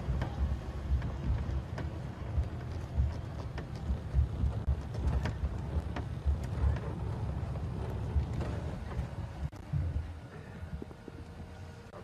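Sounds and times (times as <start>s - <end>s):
wind buffeting microphone: 0.0s - 11.7s
vehicle rumbling over rough track: 0.0s - 12.0s.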